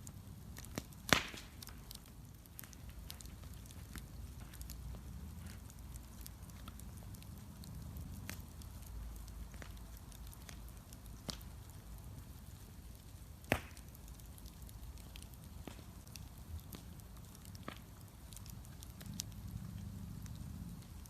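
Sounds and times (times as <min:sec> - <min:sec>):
low steady rumble: 0:00.0 - 0:13.4, 0:14.0 - 0:21.0
bonfire crackling: 0:00.0 - 0:21.0
fire pops and snaps: 0:00.0 - 0:21.0.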